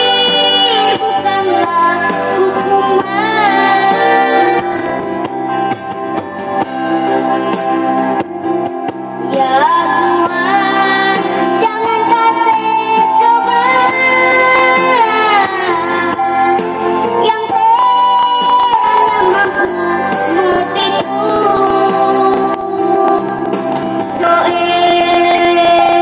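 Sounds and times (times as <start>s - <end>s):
girl singing pop ballad: 0.0s - 6.0s, 9.1s - 26.0s
backing track music: 0.0s - 26.0s.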